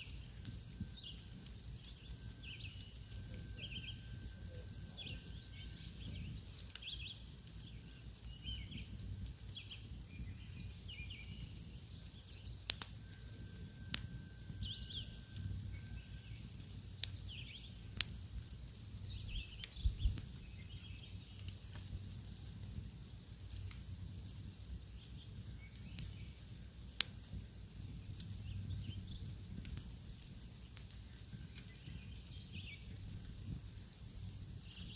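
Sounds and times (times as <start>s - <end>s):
small birds chirping: 0.0s - 22.5s, 23.4s - 34.9s
campfire crackling and popping: 0.0s - 34.9s.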